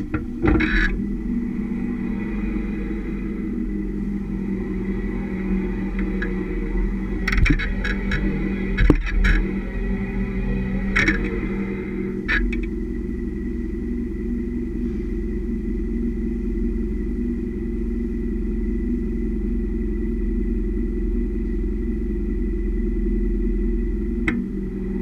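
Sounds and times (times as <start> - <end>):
vehicle driving drone: 0.0 - 25.0.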